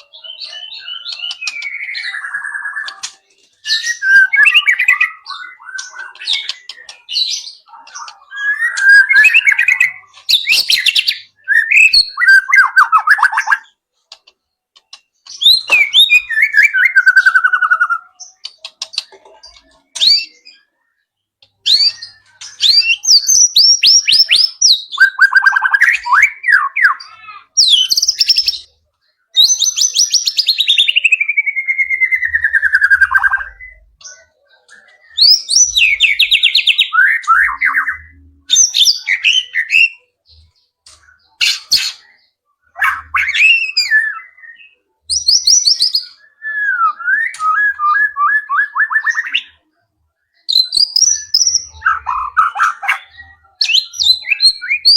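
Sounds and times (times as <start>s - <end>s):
songbird singing trills: 0.0s - 54.9s.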